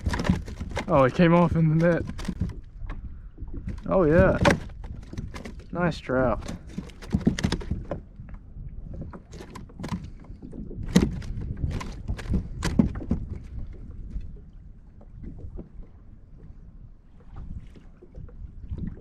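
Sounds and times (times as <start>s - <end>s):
knocks and clatter on kayak: 0.0s - 16.6s.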